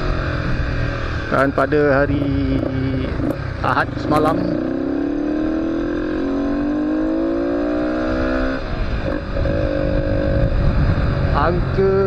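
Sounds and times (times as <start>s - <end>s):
motorcycle engine accelerating: 0.0s - 12.0s
wind and road noise: 0.0s - 12.0s.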